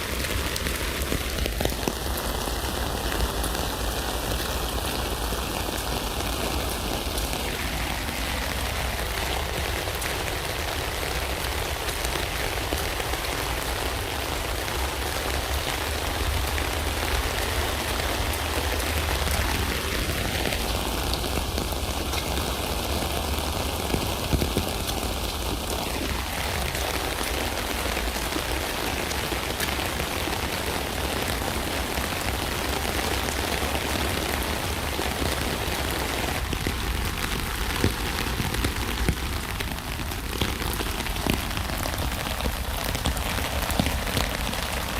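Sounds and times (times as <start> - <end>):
rain on a tent: 0.0 - 44.9.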